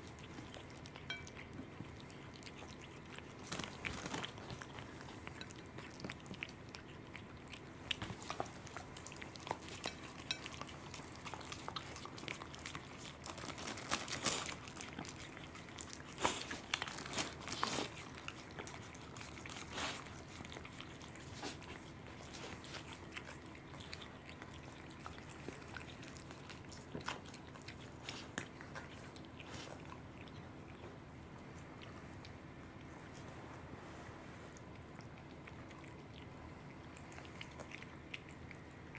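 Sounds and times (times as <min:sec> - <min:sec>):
cat chewing wetly with clicks: 0:00.0 - 0:38.9.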